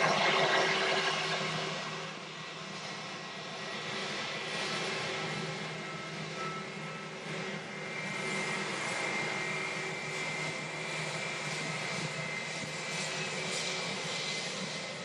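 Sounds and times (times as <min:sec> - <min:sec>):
high engine whine: 0:00.0 - 0:15.0
jet engines at taxi power: 0:00.0 - 0:15.0.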